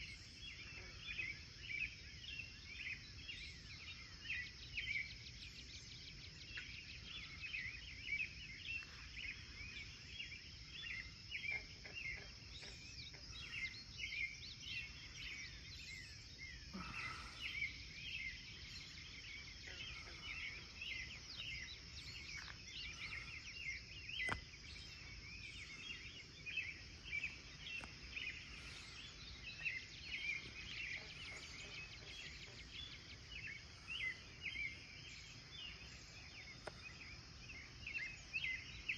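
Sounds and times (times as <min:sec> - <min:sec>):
birds chirping: 0:00.0 - 0:38.9
high insect drone: 0:02.6 - 0:38.9.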